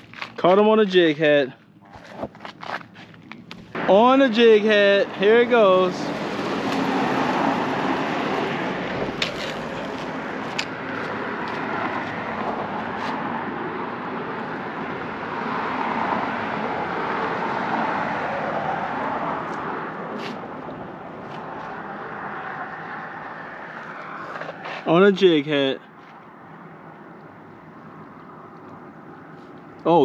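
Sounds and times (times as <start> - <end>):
road traffic rushing: 0.0 - 30.0.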